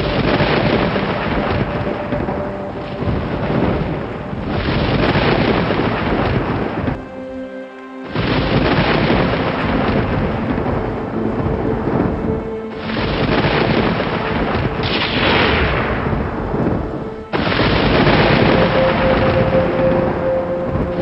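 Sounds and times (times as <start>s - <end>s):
thunder rumbling: 0.0s - 7.1s, 8.1s - 21.0s
soft sustained music tones: 0.0s - 21.0s.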